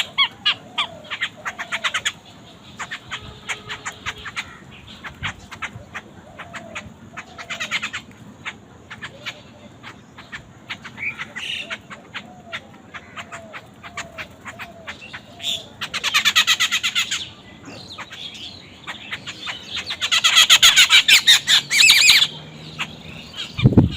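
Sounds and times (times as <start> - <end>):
bird chirps and squawks: 0.0 - 23.9.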